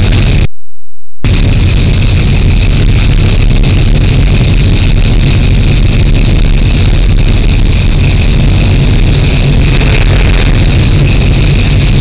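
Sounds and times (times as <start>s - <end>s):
diesel locomotive engine drone: 0.0s - 0.5s, 1.1s - 12.0s.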